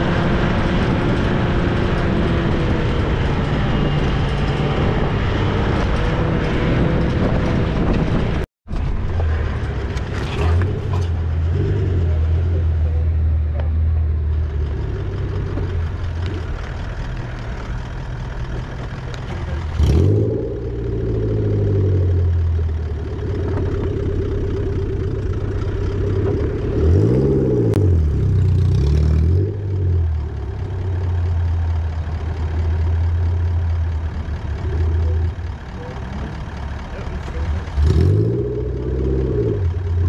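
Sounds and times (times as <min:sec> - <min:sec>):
off-road vehicle engine revving: 0:00.0 - 0:08.4, 0:09.1 - 0:40.0.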